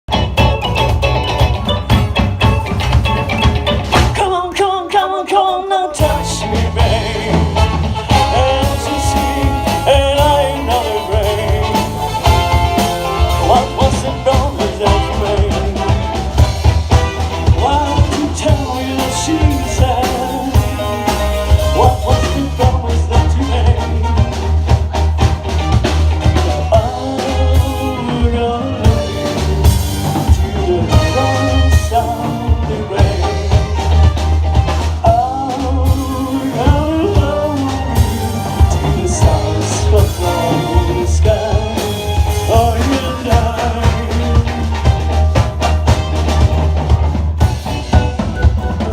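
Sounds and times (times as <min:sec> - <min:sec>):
bass: 0:00.0 - 0:48.9
live rock band playing: 0:00.0 - 0:48.9
drums striking a steady beat: 0:00.1 - 0:48.9.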